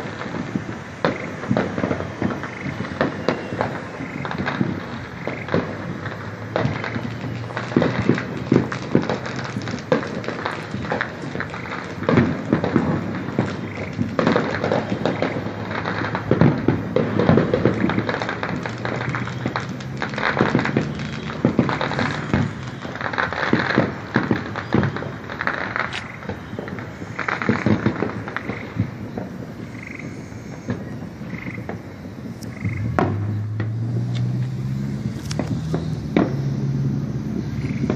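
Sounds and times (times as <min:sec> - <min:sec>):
fireworks crackling and banging: 0:00.0 - 0:37.9.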